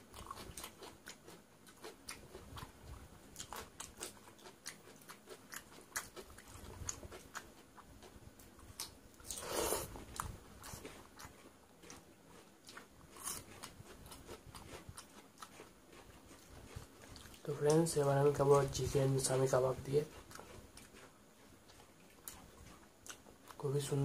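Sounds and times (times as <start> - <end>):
person chewing and crunching: 0.0 - 24.0.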